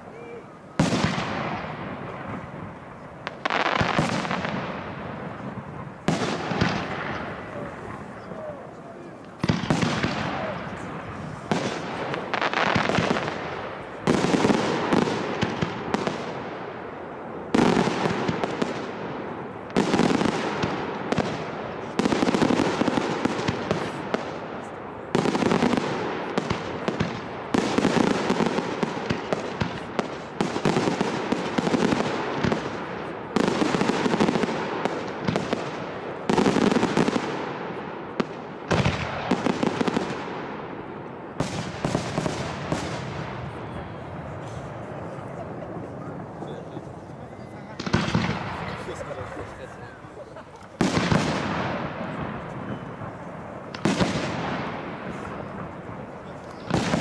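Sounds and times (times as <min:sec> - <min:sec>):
firework crackle: 0:00.0 - 0:57.0
firework shells exploding: 0:00.8 - 0:08.4, 0:09.2 - 0:49.8, 0:50.4 - 0:57.0.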